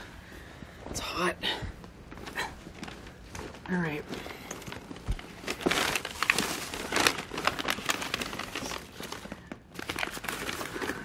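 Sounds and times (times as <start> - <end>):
rustling and crinkling in a handbag: 1.8 - 11.0.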